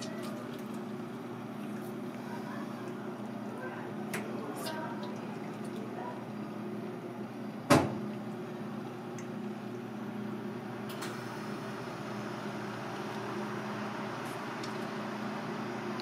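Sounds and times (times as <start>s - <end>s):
kitchen background hum: 0.0s - 16.0s.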